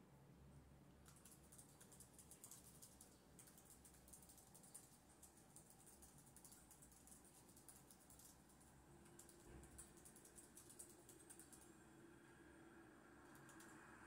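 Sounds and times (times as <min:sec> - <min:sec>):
typing on computer keyboard: 0:01.0 - 0:11.8, 0:13.2 - 0:14.0.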